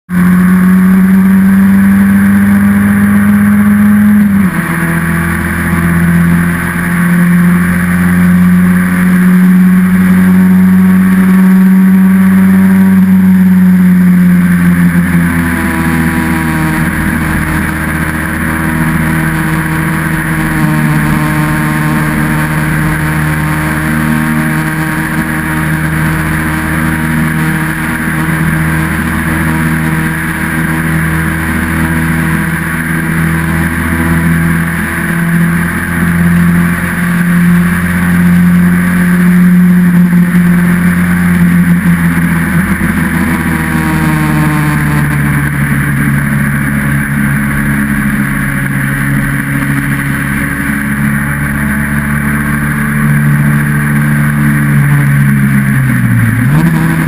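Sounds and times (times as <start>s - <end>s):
racing car engine running hard: 0.1s - 57.0s.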